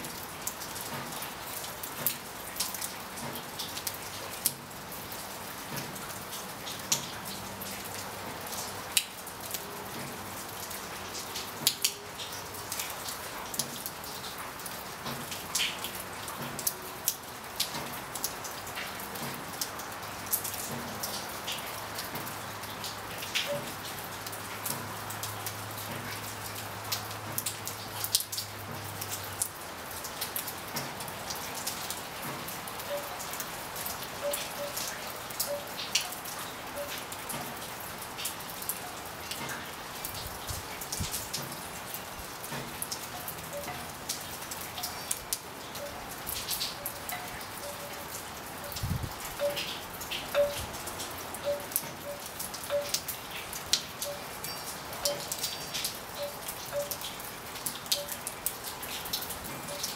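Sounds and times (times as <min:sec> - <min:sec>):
raindrops tapping close by: 0:00.0 - 0:59.9
steady rain hiss: 0:00.0 - 0:59.9.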